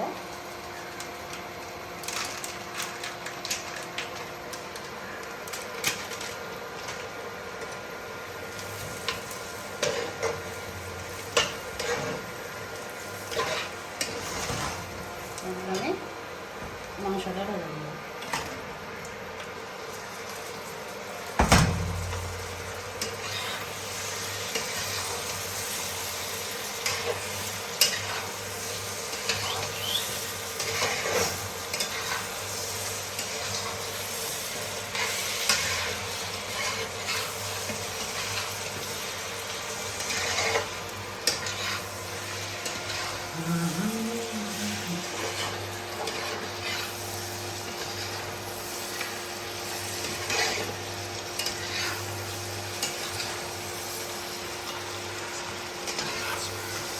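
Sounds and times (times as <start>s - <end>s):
meat sizzling in oil: 0.0s - 15.5s, 19.2s - 56.9s.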